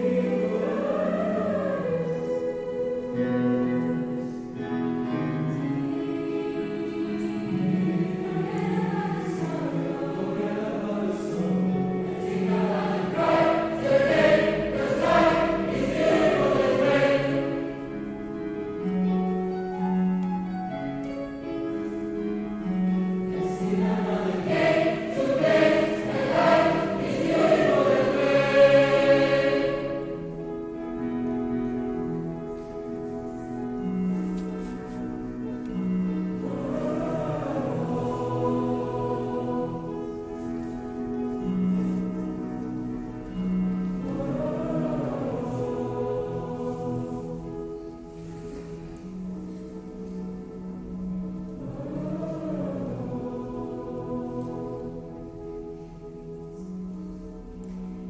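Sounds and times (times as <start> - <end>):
choir singing held notes: 0.0 - 4.6, 5.2 - 18.9, 23.3 - 30.9, 34.0 - 58.0.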